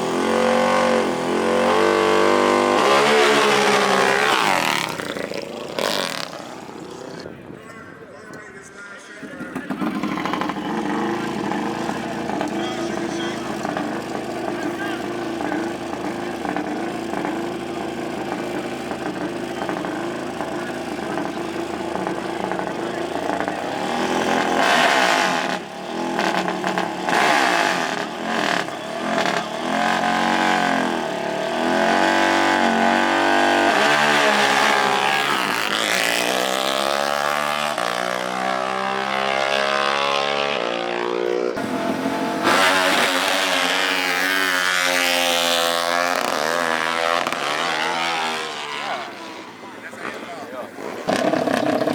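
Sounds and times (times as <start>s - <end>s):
small racing engines revving: 0.0s - 7.3s, 9.3s - 51.9s.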